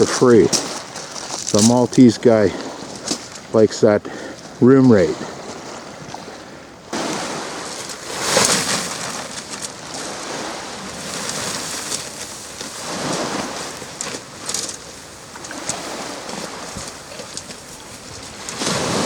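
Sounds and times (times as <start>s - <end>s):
gusting wind: 0.0s - 19.0s.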